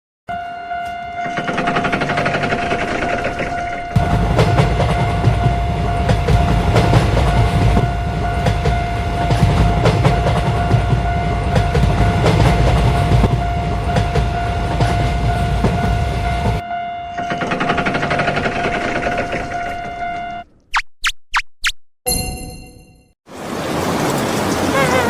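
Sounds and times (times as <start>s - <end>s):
train rumble with wheel clatter: 0.4s - 20.4s, 23.7s - 25.0s.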